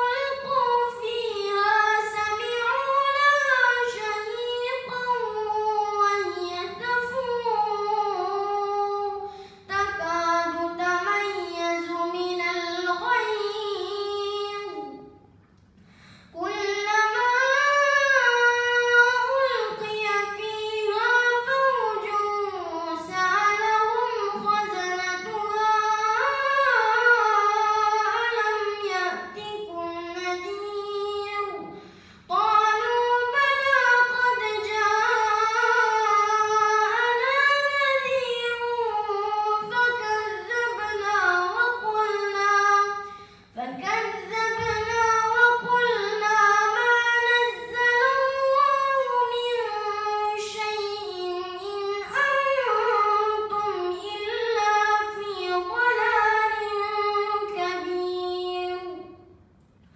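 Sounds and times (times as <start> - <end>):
boy reciting in melodic chant: 0.0 - 15.3, 16.3 - 59.4.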